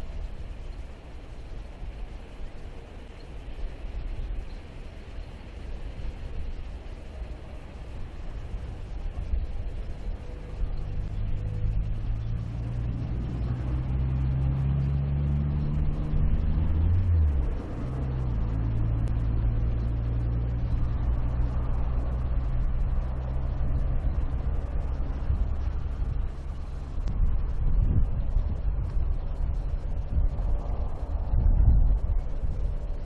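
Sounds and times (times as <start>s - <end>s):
engine running with low hum: 0.0s - 33.0s.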